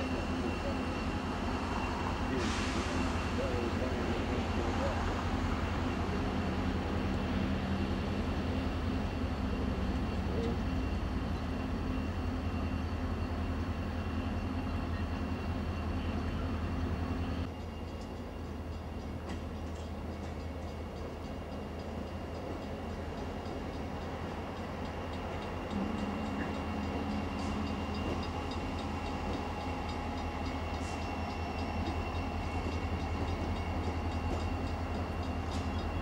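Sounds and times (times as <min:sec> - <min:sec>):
diesel locomotive droning: 0:00.0 - 0:36.0.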